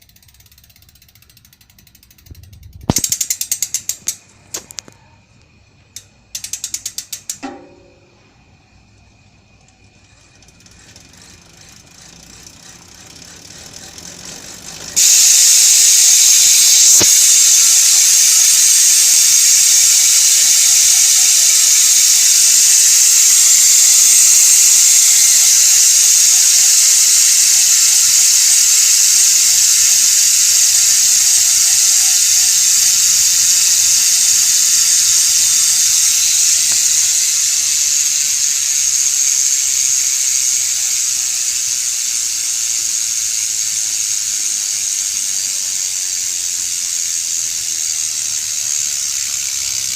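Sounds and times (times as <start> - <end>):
bicycle hub freewheel buzz: 0.0 - 49.9.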